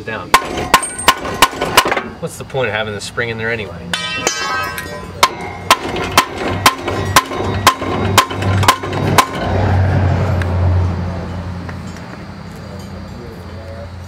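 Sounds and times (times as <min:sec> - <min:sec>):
hammer striking metal exhaust: 0:00.3 - 0:02.3, 0:03.9 - 0:13.2.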